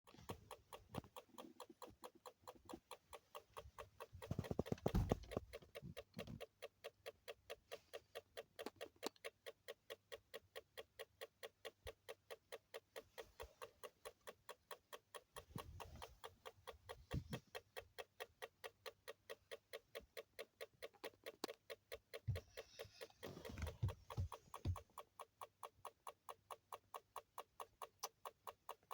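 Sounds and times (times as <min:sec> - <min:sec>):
steady ticking: 0:00.1 - 0:28.9.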